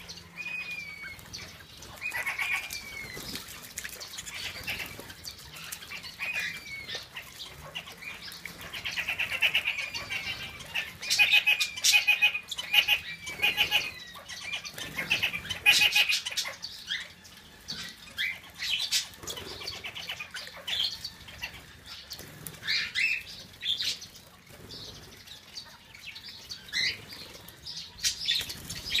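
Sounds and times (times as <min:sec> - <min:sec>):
bird chirps and squawks: 0:00.0 - 0:24.0
wings flapping and splashing: 0:01.0 - 0:16.7, 0:17.8 - 0:25.4, 0:26.6 - 0:29.0.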